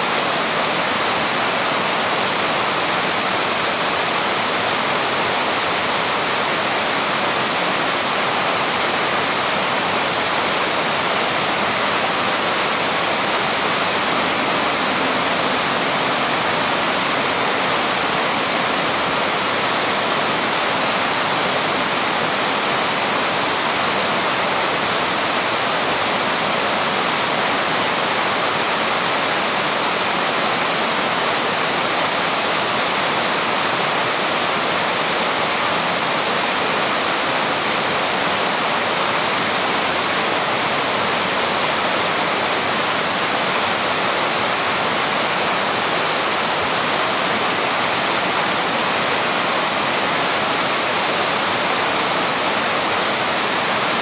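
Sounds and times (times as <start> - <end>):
water pouring over falls: 0.0 - 54.0.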